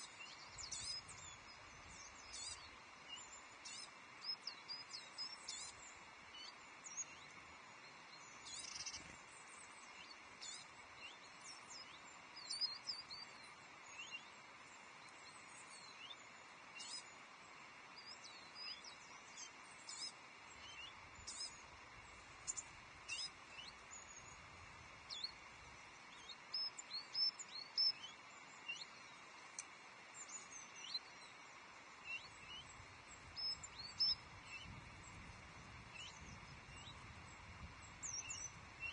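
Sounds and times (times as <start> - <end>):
background hiss: 0.0 - 38.9
small songbirds chirping: 0.0 - 38.9.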